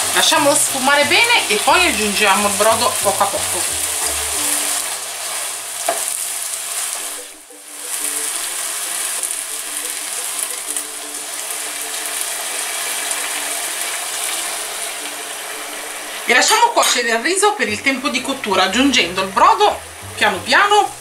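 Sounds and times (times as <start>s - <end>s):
rice sizzling in a pan: 0.0s - 21.0s.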